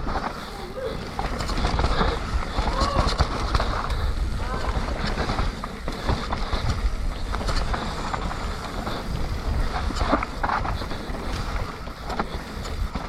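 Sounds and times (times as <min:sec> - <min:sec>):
bike rattling and knocking: 0:00.0 - 0:13.0
wind rumble on microphone: 0:00.0 - 0:13.0.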